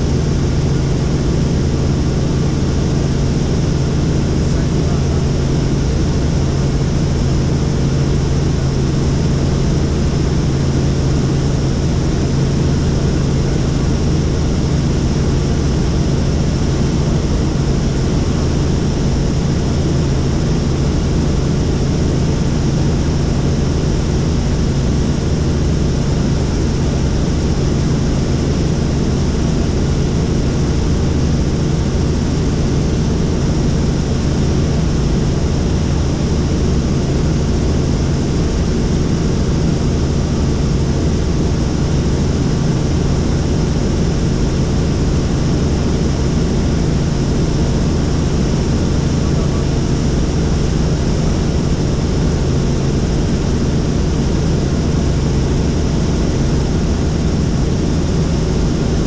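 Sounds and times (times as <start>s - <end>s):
helicopter engine and rotor noise: 0.0s - 59.0s.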